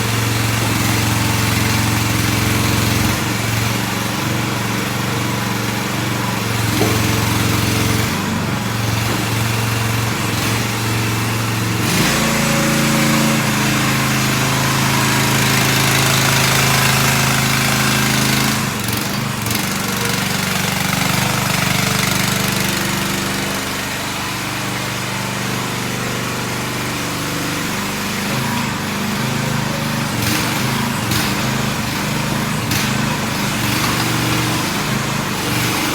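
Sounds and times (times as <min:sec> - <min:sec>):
mini excavator engine running: 0:00.0 - 0:35.9.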